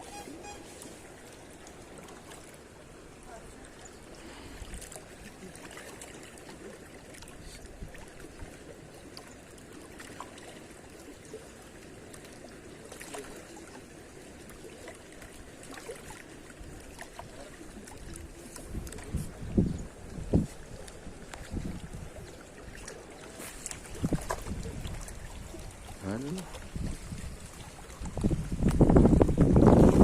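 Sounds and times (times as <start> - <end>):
water lapping and trickling: 0.0 - 30.0
wind: 0.0 - 30.0.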